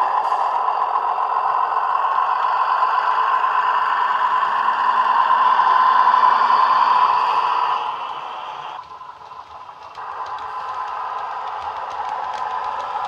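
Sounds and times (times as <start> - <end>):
model train diesel engine sound: 0.0 - 13.0.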